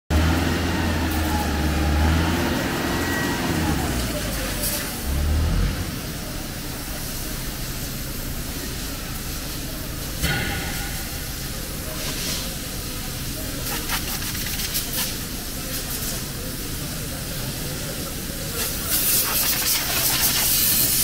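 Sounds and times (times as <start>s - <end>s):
factory machinery hiss and hum: 0.1s - 21.0s.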